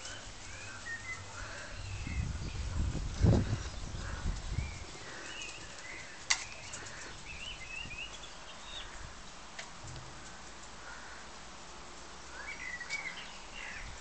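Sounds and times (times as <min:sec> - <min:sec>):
faint outdoor hush: 0:00.0 - 0:14.0
small birds chirping: 0:00.0 - 0:14.0.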